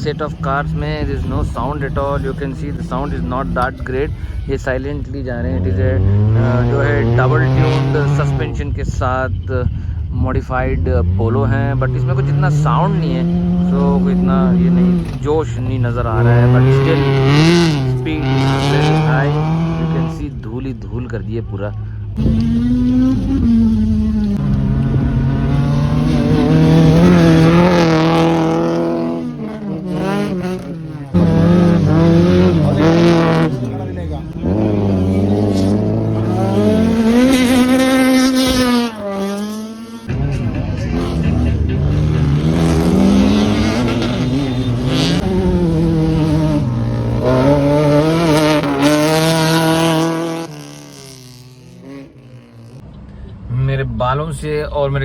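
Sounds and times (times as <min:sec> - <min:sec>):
rally car engine passing: 0:05.4 - 0:08.8, 0:10.6 - 0:20.5, 0:22.2 - 0:53.6.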